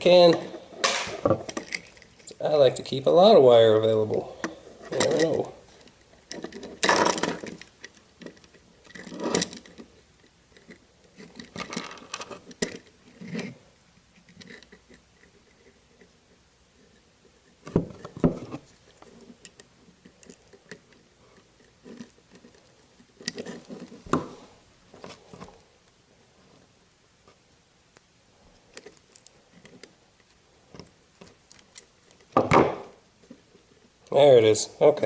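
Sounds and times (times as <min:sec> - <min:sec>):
clicks and rustles of wire: 0:00.2 - 0:03.3, 0:04.0 - 0:26.0, 0:27.2 - 0:32.5.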